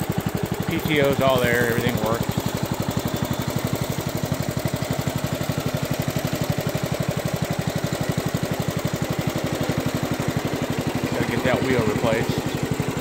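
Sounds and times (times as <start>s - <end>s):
garden tractor engine running: 0.0s - 13.0s.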